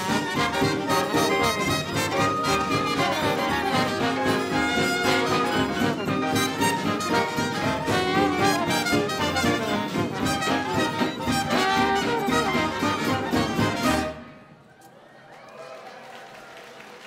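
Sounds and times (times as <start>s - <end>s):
dance orchestra with brass: 0.0s - 14.6s.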